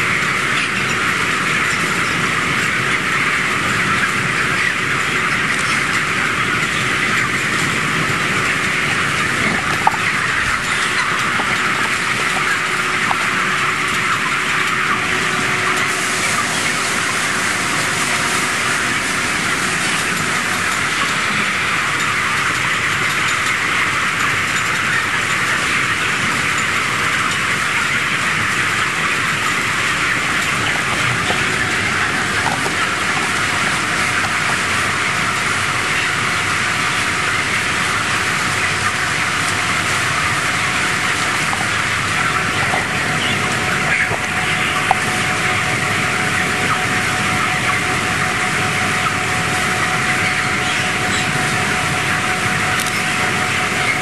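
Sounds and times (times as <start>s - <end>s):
chicken flock cheeping: 0.0s - 54.0s.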